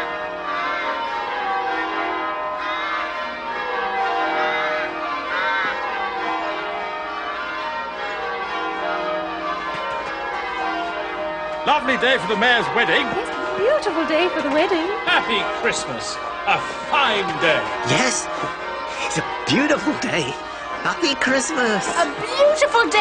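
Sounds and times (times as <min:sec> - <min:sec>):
church bells pealing: 0:00.0 - 0:23.0.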